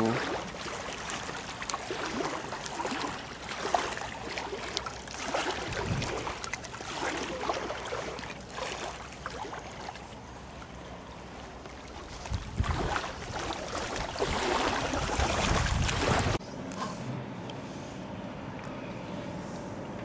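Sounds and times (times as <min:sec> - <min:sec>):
river water lapping at bank: 0:00.0 - 0:17.1.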